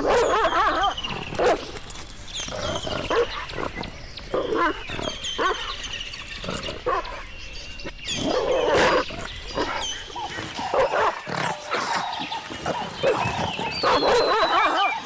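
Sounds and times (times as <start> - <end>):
dog growling and grunting: 0.0 - 7.3, 8.1 - 15.0.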